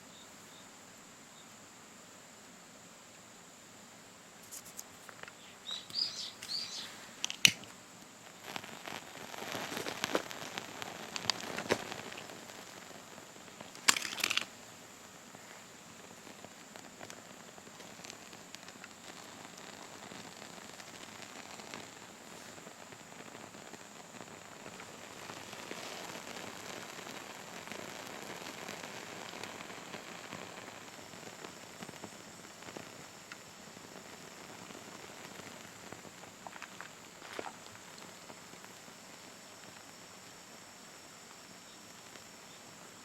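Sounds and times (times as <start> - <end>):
soft hiss of burning: 0.0 - 43.0
fire crackling and popping: 4.4 - 43.0.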